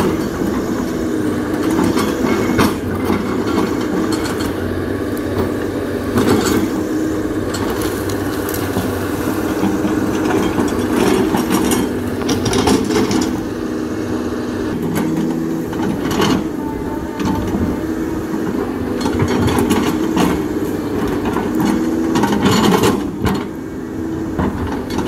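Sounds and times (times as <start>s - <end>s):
excavator diesel engine running: 0.0s - 25.0s
knocks and scraping clatter: 1.4s - 6.8s, 7.4s - 13.5s, 14.7s - 23.6s.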